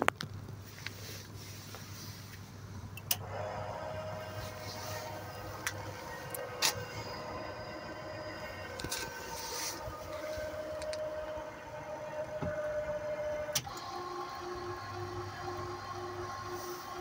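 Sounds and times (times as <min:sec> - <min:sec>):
electric motor whine: 0:03.2 - 0:17.0.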